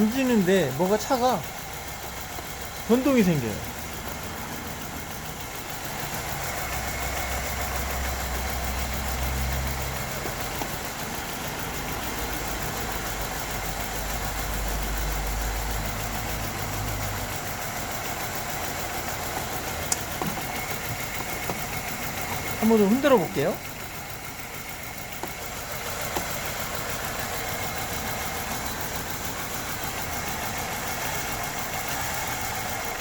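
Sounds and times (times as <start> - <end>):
car engine idling unevenly: 0.0 - 33.0.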